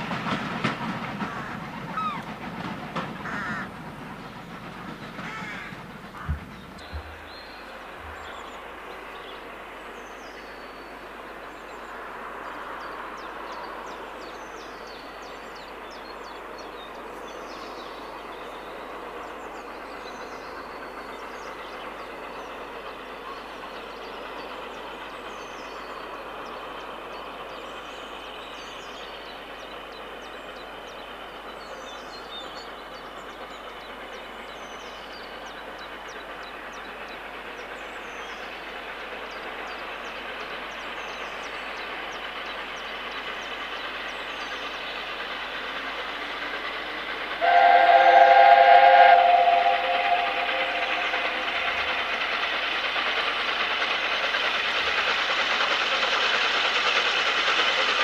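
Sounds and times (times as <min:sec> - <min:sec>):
distant steam train: 0:00.0 - 0:58.0.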